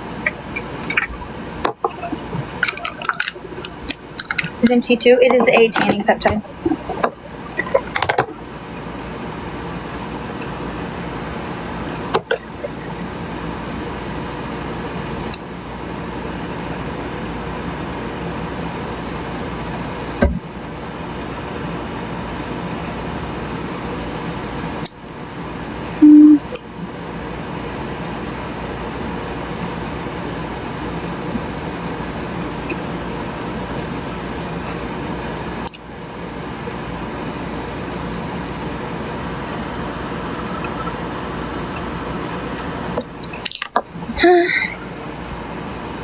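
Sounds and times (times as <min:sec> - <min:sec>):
background hum: 0:00.0 - 0:46.0.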